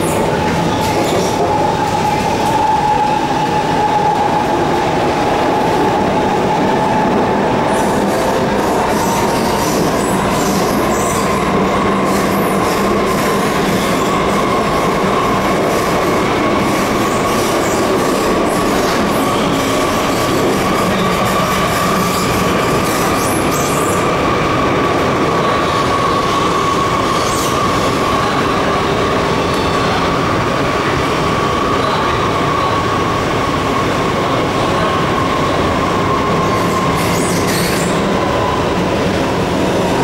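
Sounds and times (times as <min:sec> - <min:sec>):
train wheels rolling on rails: 0:00.0 - 0:40.0.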